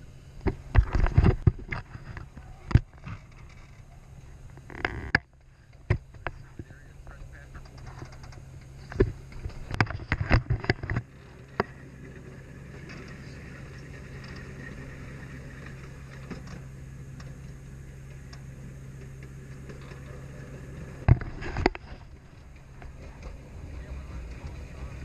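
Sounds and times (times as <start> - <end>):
amusement park train humming: 0.0 - 25.0.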